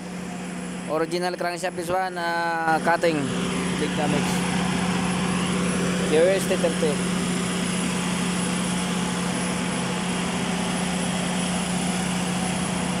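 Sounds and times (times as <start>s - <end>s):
diesel generator running: 0.0s - 13.0s.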